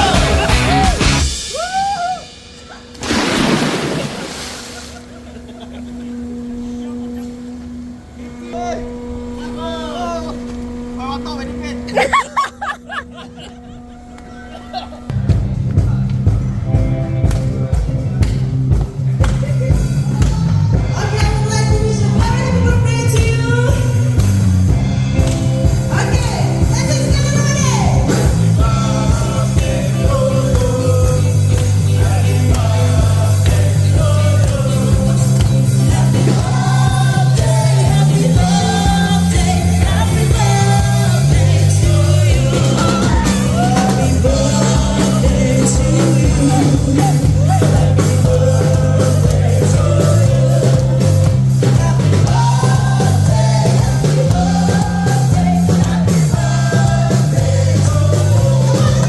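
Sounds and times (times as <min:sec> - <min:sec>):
rock song with vocals: 0:00.0 - 0:04.3, 0:15.1 - 0:59.0.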